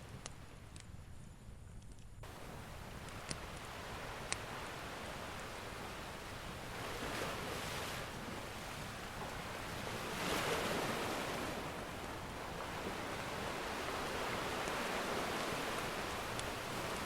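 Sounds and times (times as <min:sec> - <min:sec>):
ocean waves breaking: 0:02.2 - 0:17.0.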